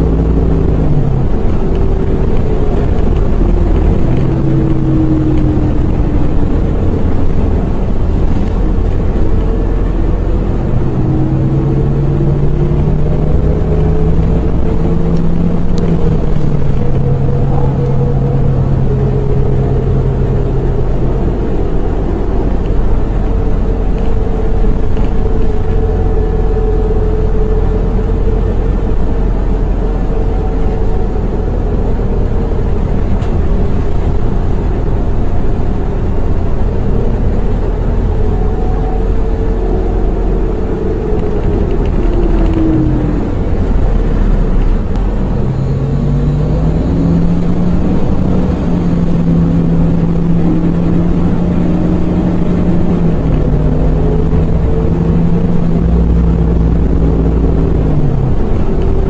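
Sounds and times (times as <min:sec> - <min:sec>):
bus engine rumbling: 0:00.0 - 0:59.0
drivetrain whine: 0:00.0 - 0:59.0.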